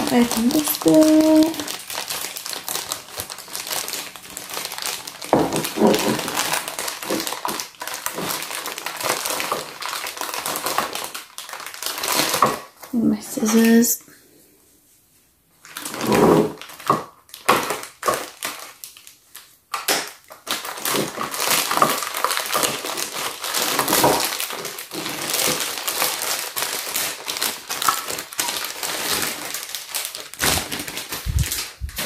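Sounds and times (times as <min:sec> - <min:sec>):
plastic bag crinkling: 0:00.0 - 0:13.9, 0:15.6 - 0:32.0.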